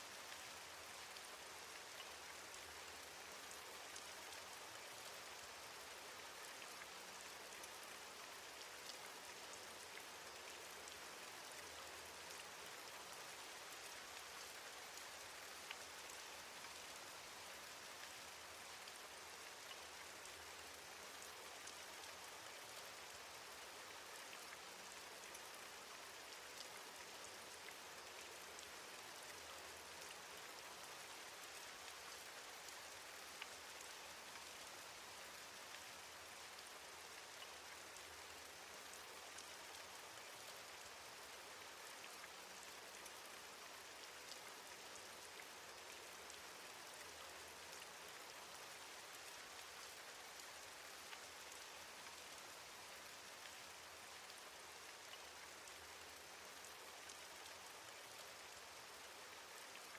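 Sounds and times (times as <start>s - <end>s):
faint rain falling: 0.0s - 59.9s.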